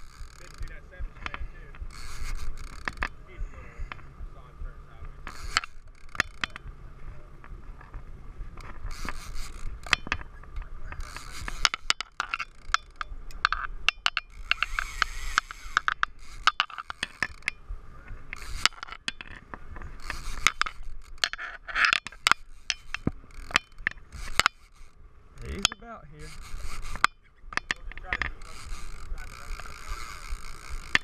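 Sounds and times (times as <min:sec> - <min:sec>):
fishing reel clicking and scraping: 0:00.0 - 0:06.8, 0:07.4 - 0:31.0.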